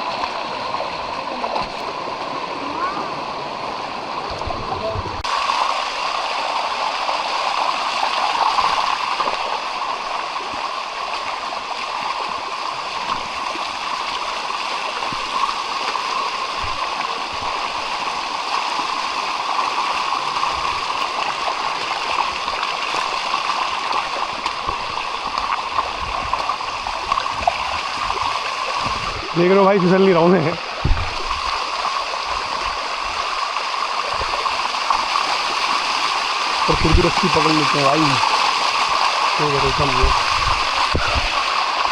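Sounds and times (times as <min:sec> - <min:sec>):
water rushing down rocks: 0:00.0 - 0:41.9.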